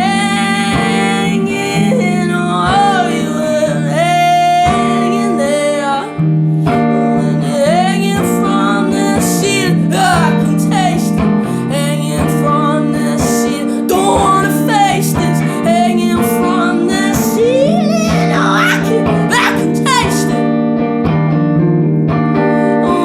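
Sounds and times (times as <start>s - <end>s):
person singing: 0.0s - 6.2s, 6.9s - 20.4s, 22.4s - 23.0s
strummed guitar chords: 0.0s - 23.0s.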